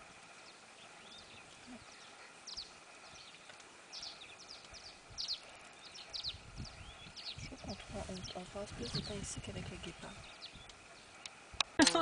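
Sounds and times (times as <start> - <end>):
birds chirping: 0.0 - 12.0
faint outdoor hiss: 0.0 - 12.0.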